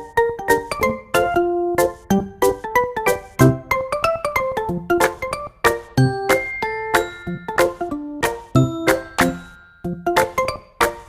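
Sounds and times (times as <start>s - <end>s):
bouncy plucked keyboard tune: 0.0s - 11.0s.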